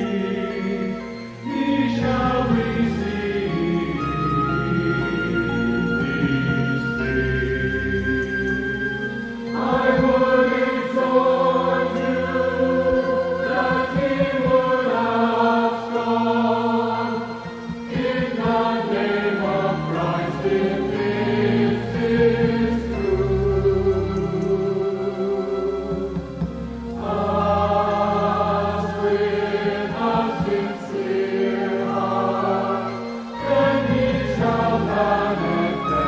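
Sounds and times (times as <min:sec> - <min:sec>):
choir singing slow sacred song: 0:00.0 - 0:36.0.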